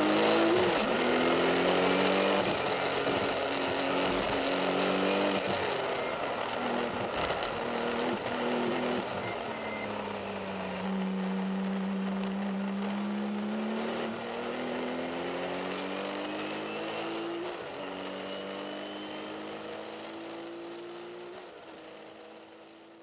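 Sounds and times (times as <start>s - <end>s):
race car engine accelerating: 0.0s - 22.9s.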